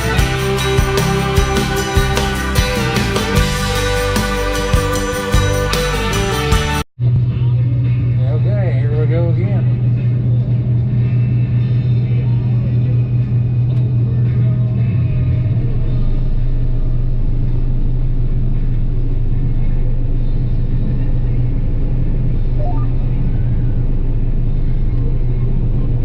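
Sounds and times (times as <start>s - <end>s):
combine harvester engine drone: 0.0s - 26.0s
deeper hum: 0.0s - 26.0s.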